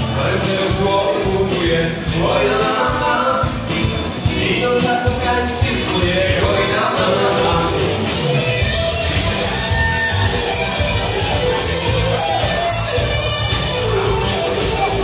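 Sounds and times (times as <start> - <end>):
dance band music with singing: 0.0 - 15.0.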